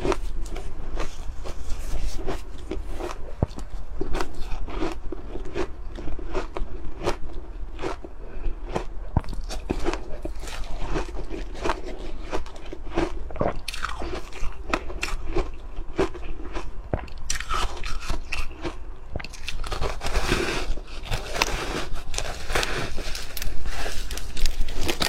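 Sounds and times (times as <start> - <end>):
ice crunching between teeth: 0.0 - 25.0.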